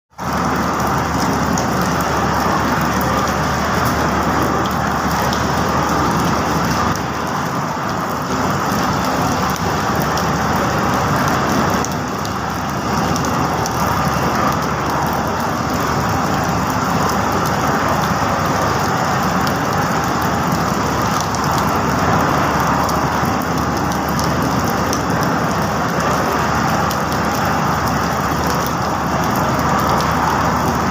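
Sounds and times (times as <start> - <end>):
steady rain: 0.1 - 30.9
vehicles driving through rain: 0.1 - 30.9.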